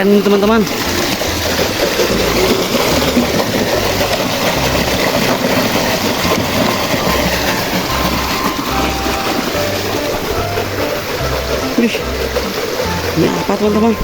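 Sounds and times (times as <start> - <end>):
water spray rushing: 0.0 - 14.0
low repeating beat: 0.6 - 14.0.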